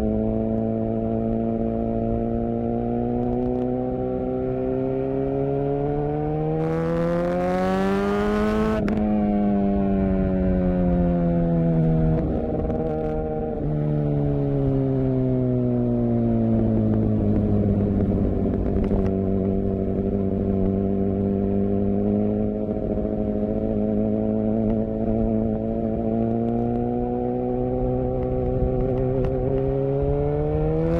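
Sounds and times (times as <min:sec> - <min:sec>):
motorcycle engine and exhaust running: 0:00.0 - 0:30.9.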